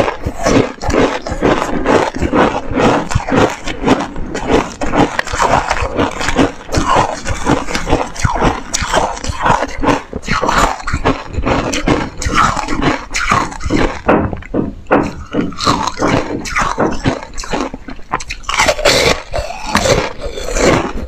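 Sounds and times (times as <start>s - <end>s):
chewing crunchy ice: 0.0s - 21.0s.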